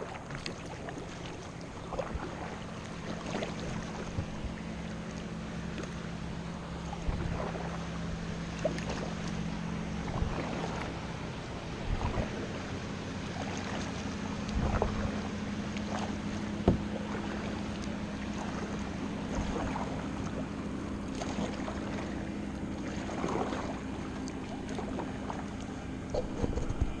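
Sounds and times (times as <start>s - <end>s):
paddle splashing in water: 0.0s - 27.0s
steady low hum: 0.0s - 27.0s.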